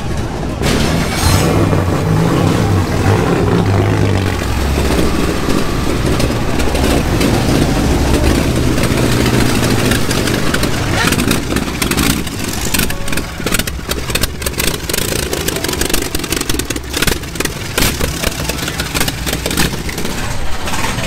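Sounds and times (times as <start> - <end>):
racing car engine running low: 0.0 - 21.0.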